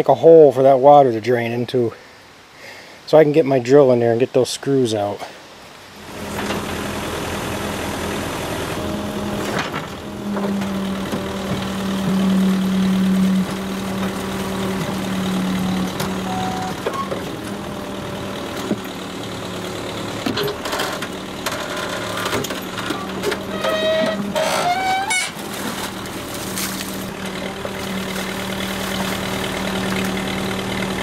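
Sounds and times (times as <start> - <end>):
backhoe engine running: 6.0 - 31.0.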